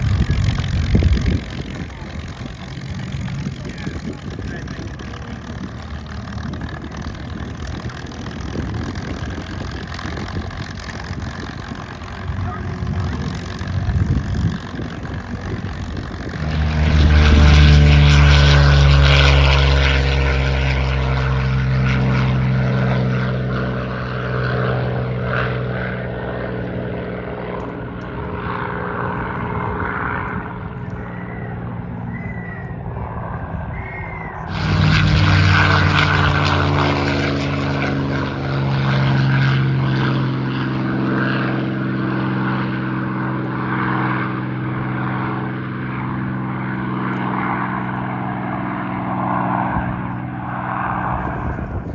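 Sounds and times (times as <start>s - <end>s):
propeller planes flying past: 0.0s - 51.9s.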